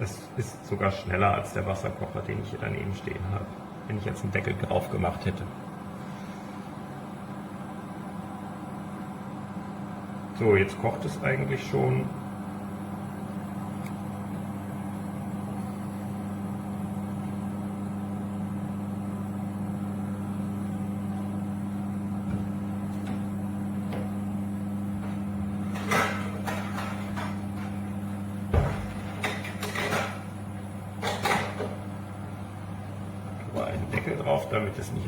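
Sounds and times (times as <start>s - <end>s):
induction hob fan and coil hum: 0.0s - 35.0s.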